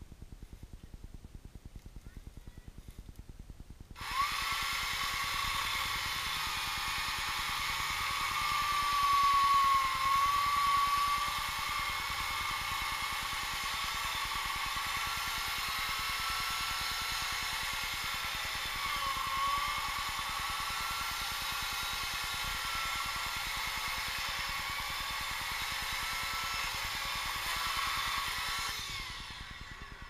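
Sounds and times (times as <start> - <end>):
high-pitched mechanical whine: 3.8 - 30.0.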